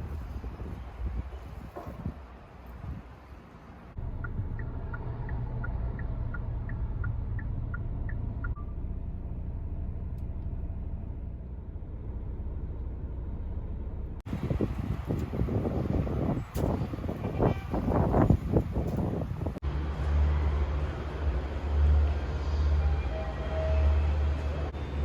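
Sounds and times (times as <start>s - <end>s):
low vehicle rumble: 0.0s - 25.0s.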